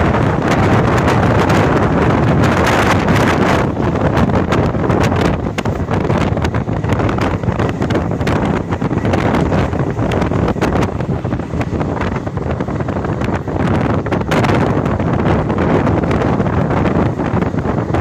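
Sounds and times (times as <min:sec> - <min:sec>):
train rumbling along track: 0:00.0 - 0:18.0
wind rushing over microphone: 0:00.0 - 0:18.0.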